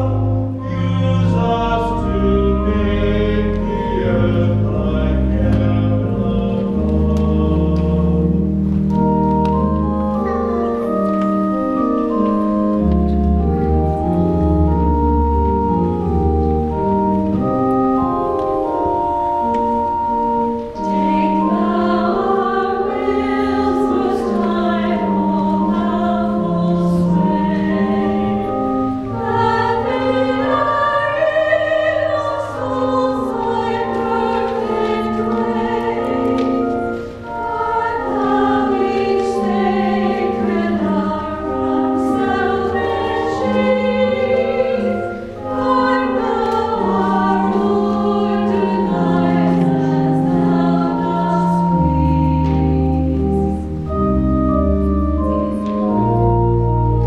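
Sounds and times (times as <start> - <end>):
choir singing: 0.0 - 57.0
organ chords: 0.0 - 57.0.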